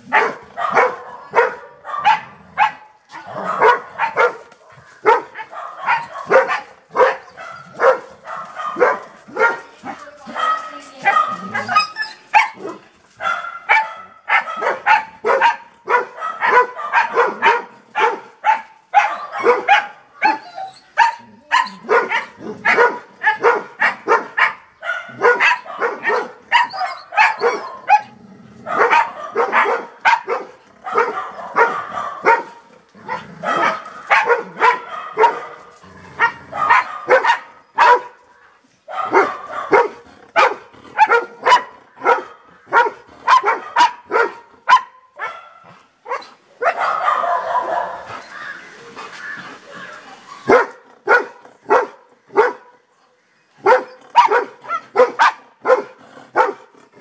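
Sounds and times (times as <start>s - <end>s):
dog barking excitedly: 0.0s - 38.2s, 38.9s - 48.5s, 49.2s - 52.8s, 53.6s - 57.0s.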